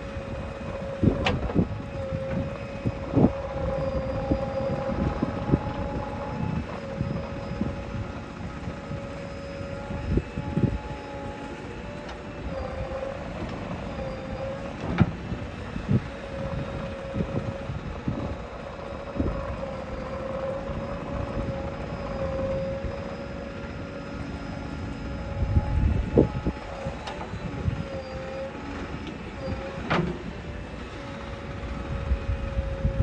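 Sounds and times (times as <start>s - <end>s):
diesel engine running with whine: 0.0s - 33.0s.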